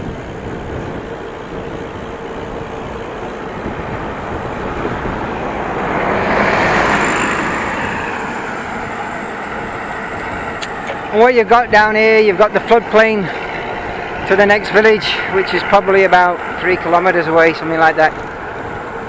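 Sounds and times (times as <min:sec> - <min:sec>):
bicycle road rumble: 0:00.0 - 0:19.0
motor vehicle passing: 0:00.0 - 0:19.0
wind on microphone: 0:00.0 - 0:19.0.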